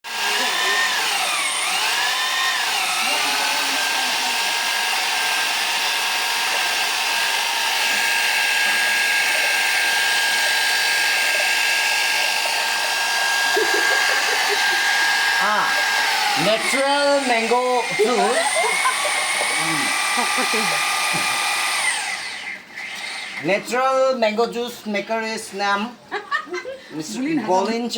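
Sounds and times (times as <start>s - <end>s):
electric drill motor whine: 0.1s - 23.4s.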